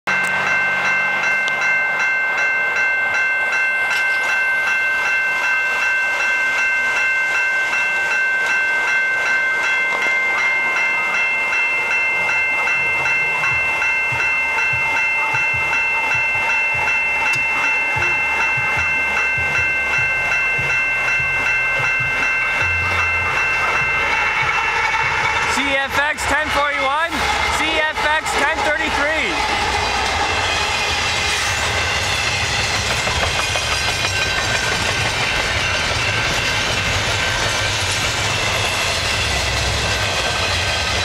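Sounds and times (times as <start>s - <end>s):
level crossing warning bell ringing: 0.1s - 41.0s.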